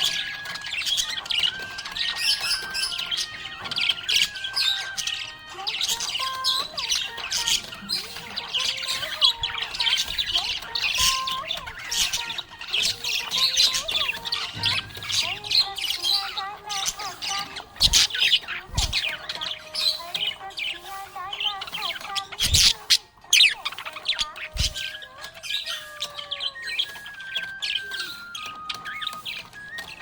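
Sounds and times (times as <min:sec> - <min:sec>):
budgerigars chirping and chattering: 0:00.0 - 0:30.0.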